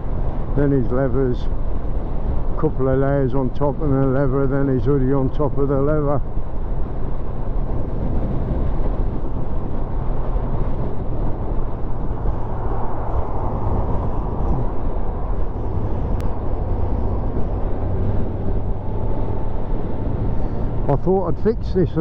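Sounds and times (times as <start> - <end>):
low motorcycle engine hum: 0.0 - 22.0
wind rush: 0.0 - 22.0.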